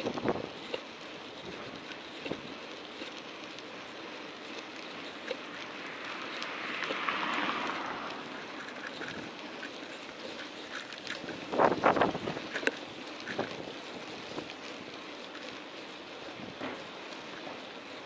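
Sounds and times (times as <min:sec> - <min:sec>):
wind and road noise from bicycle: 0:00.0 - 0:18.0.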